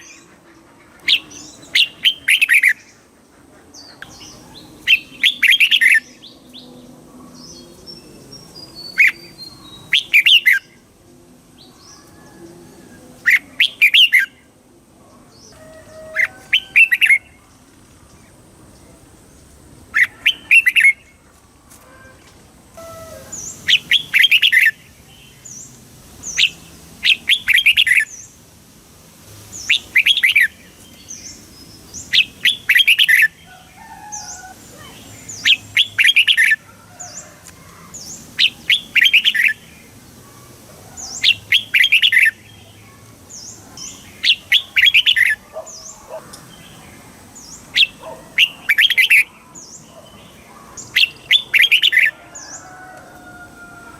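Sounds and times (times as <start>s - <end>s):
bulbul warbled song: 0.0s - 11.0s, 11.6s - 21.2s, 22.8s - 28.4s, 29.4s - 40.4s, 41.0s - 52.7s.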